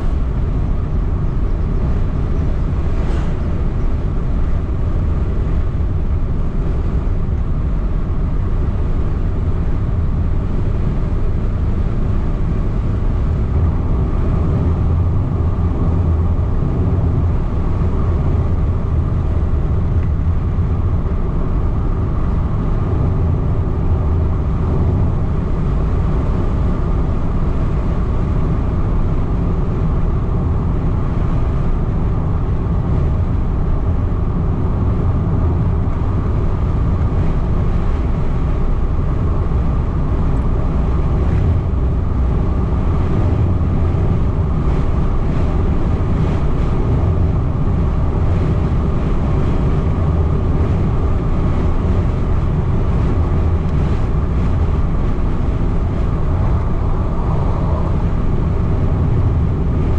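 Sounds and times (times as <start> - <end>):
engine hum: 0.0 - 59.9
tyres rumbling on asphalt: 0.0 - 59.9.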